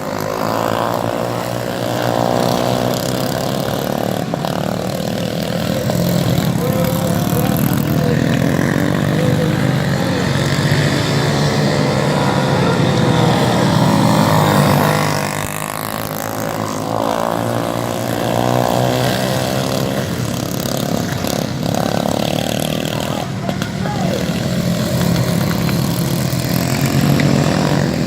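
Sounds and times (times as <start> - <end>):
racing motorcycles revving: 0.0 - 28.0.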